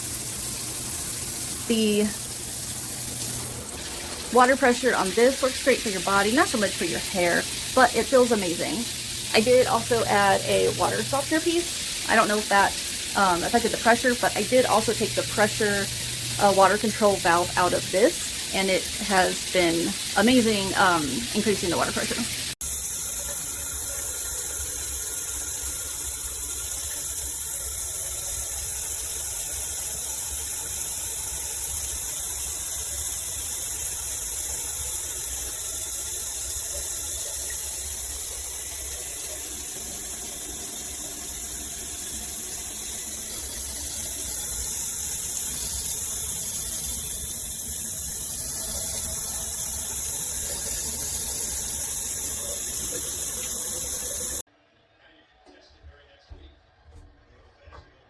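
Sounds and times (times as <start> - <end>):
shower water spraying: 0.0 - 54.5.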